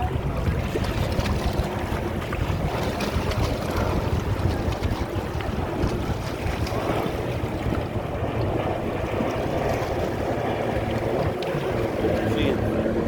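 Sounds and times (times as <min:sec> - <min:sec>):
boat engine hum: 0:00.0 - 0:13.0
sea water: 0:00.0 - 0:13.0
wind on microphone: 0:00.0 - 0:13.0.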